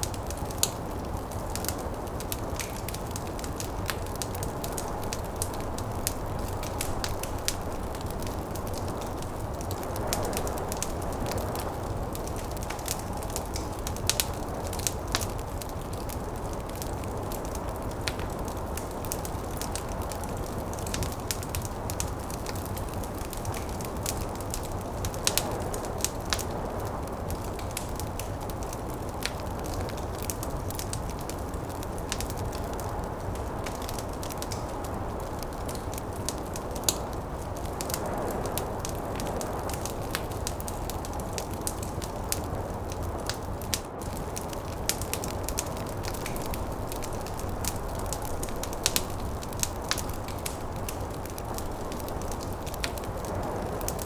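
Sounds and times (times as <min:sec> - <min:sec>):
low rushing wind: 0:00.0 - 0:54.0
wood fire crackling: 0:00.0 - 0:54.0.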